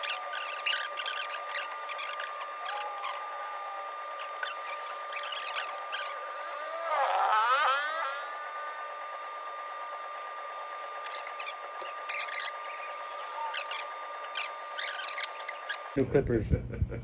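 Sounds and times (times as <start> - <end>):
louder rising-pitch sound: 0.0 - 16.0
electric hair clippers humming: 0.0 - 16.1.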